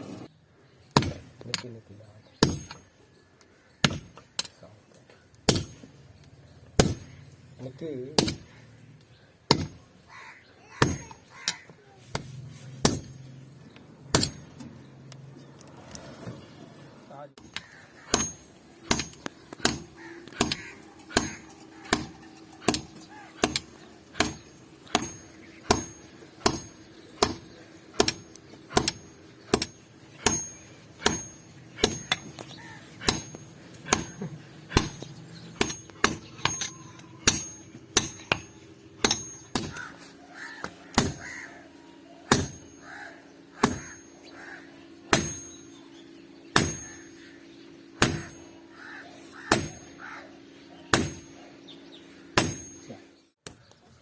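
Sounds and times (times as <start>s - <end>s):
steady low hum: 0.0s - 54.0s
hammer striking iron on anvil: 0.9s - 1.8s, 2.4s - 4.6s, 5.4s - 8.8s, 9.5s - 10.1s, 10.8s - 15.1s, 17.4s - 41.7s, 42.3s - 44.4s, 45.1s - 48.8s, 49.4s - 53.1s.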